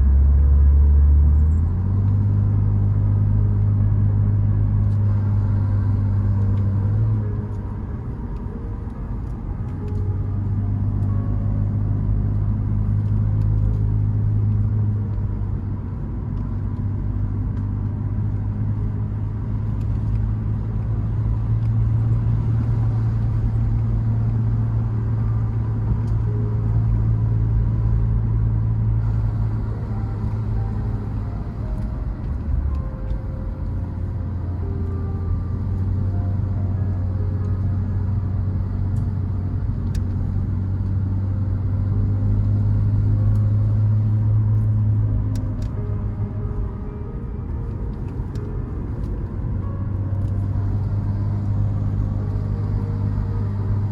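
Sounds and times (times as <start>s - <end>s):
car engine humming: 0.0s - 53.9s.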